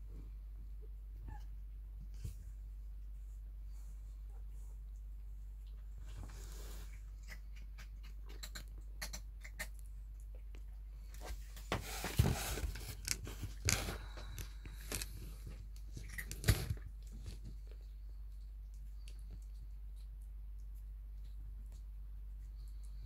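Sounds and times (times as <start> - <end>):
kittens scuffling and rustling: 0.0 - 23.0.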